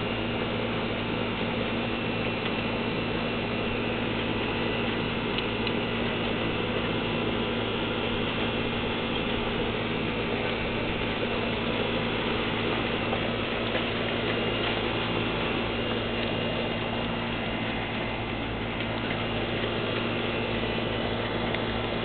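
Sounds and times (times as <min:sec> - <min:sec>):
low hum: 0:00.0 - 0:22.0
raindrops pattering: 0:00.0 - 0:22.0.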